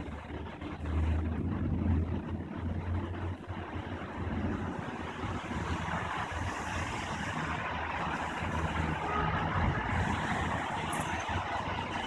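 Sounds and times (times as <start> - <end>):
steady hiss of rain: 0.0 - 12.0.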